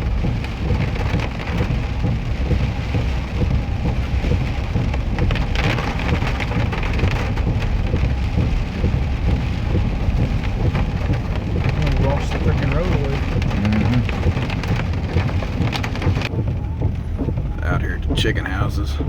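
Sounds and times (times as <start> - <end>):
heavy rain pelting down: 0.0 - 19.0
steady low rumble: 0.0 - 19.0.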